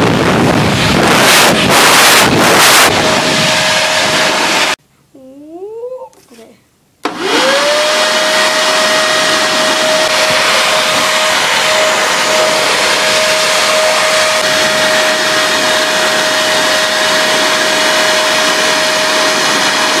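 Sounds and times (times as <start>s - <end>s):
electric blower running: 0.0s - 4.8s, 7.0s - 20.0s.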